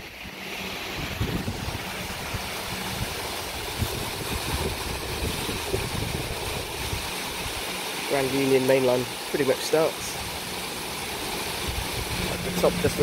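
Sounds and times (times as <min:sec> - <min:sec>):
wind buffeting microphone: 0:00.0 - 0:07.7, 0:10.2 - 0:13.0
water gushing through lock gates: 0:00.0 - 0:13.0.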